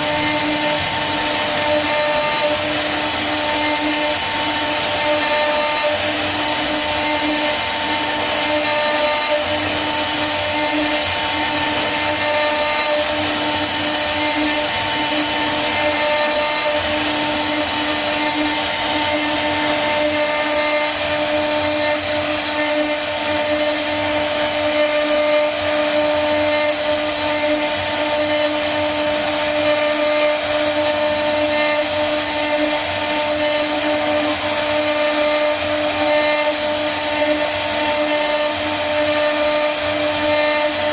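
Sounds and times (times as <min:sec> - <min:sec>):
cutter hissing in wood: 0:00.0 - 0:40.9
spindle motor whine: 0:00.0 - 0:40.9.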